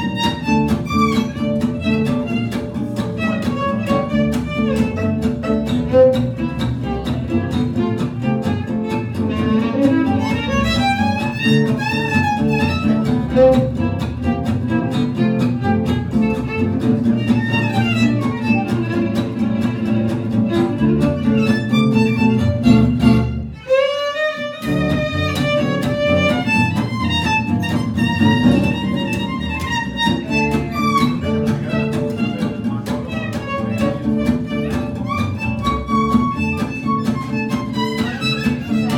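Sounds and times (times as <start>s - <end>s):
double bass: 0.0s - 23.7s, 24.6s - 38.9s
acoustic guitar: 0.0s - 38.9s
violin leading: 0.0s - 38.9s.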